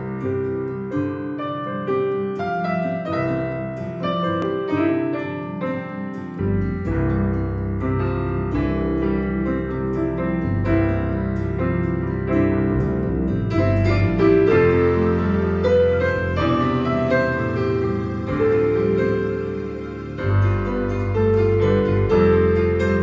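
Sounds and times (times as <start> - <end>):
digital piano playing: 0.0 - 23.0.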